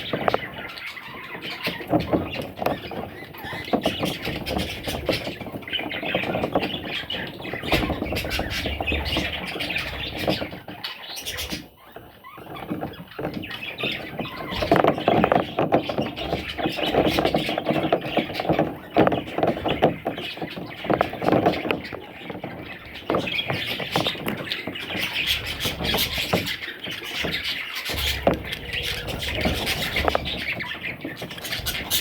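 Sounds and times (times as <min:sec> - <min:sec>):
budgerigars chattering and squawking: 0:00.0 - 0:32.0.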